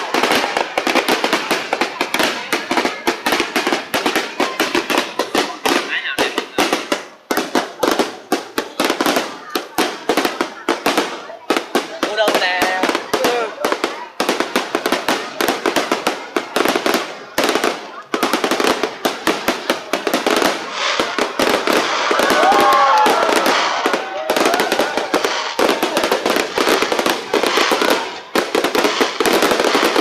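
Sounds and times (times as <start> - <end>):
faint voices: 0.0 - 30.0
firecrackers crackling: 0.0 - 30.0.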